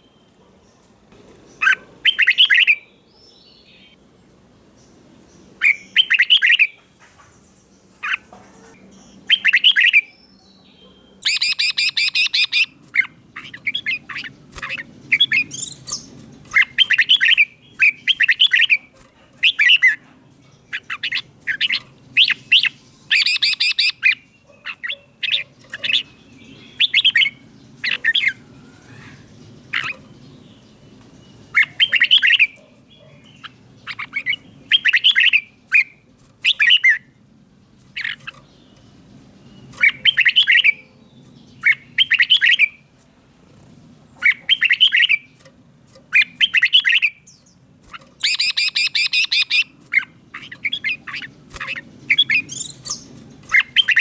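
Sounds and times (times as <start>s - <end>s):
bird singing warbled phrases: 0.0s - 54.0s.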